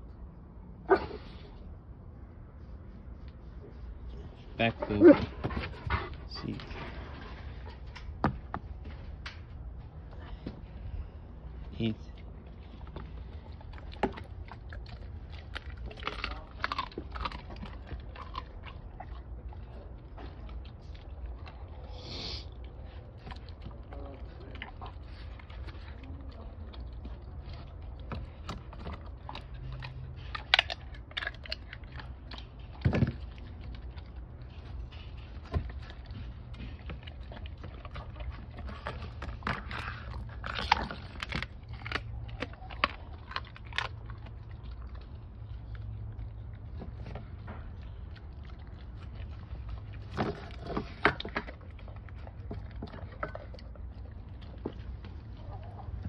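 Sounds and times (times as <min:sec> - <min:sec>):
dog chewing meat and bone: 0:03.0 - 0:56.0.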